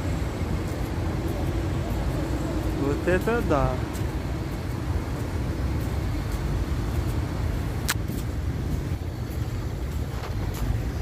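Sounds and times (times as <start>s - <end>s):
city traffic noise: 0.0s - 11.0s.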